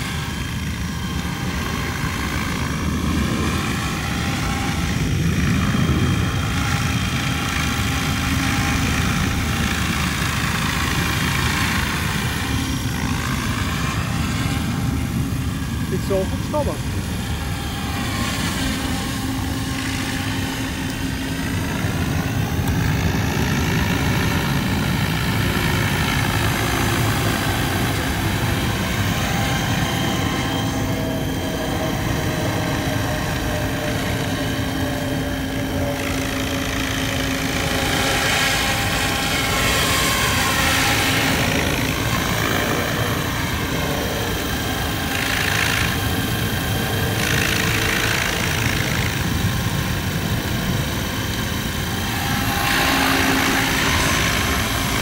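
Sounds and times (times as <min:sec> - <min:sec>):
rc helicopter rotor chop and whine: 0:00.0 - 0:55.0.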